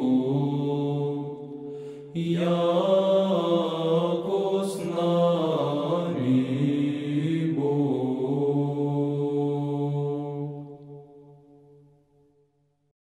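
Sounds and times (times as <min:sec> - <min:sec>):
choir chanting: 0:00.0 - 0:11.4.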